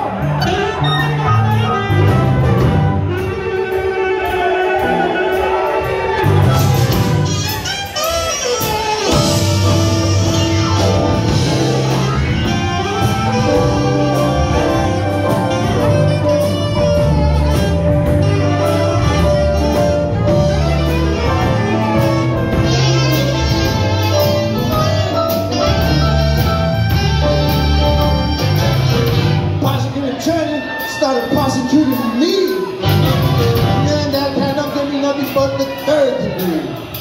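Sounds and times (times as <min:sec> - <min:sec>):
big band playing swing jazz: 0:00.0 - 0:37.0.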